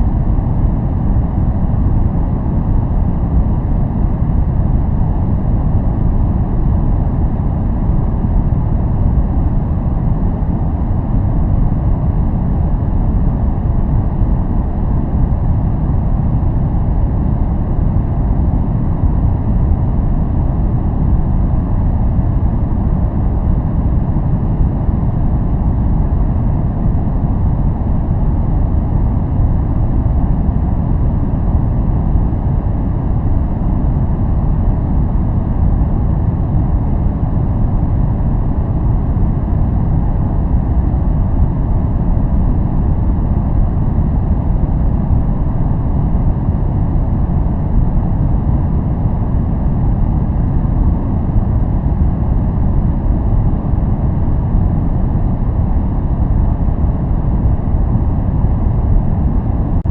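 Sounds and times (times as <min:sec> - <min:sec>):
deep rumbling white noise: 0:00.0 - 0:59.9.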